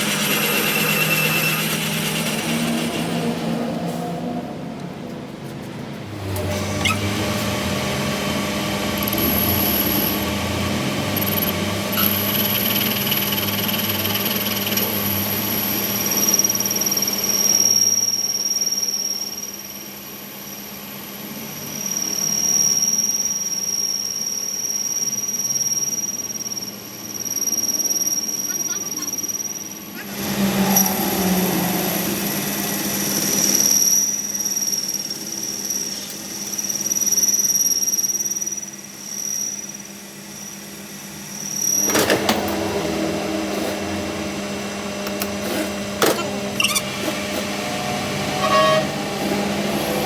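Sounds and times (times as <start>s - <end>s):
metalworking machinery whining: 0.0s - 50.0s.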